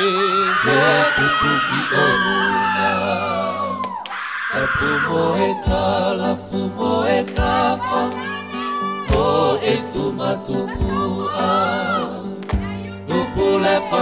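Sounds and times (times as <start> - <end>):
choir singing with vibrato: 0.0 - 12.4, 13.0 - 14.0.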